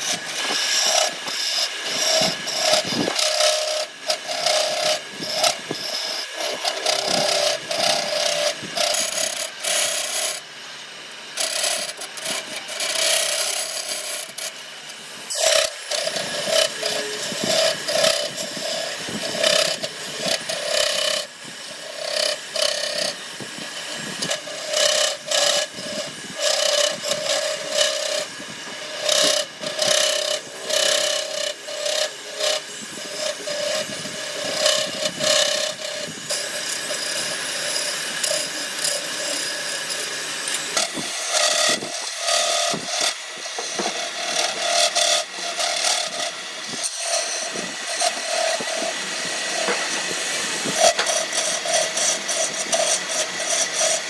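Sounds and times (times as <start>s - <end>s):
tool scraping wood: 0.0s - 54.0s.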